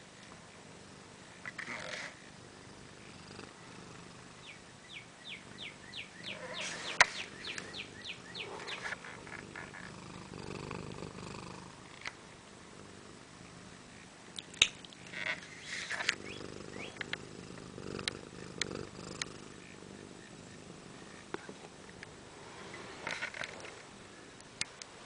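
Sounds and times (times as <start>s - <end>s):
cat purring: 0.0s - 24.4s.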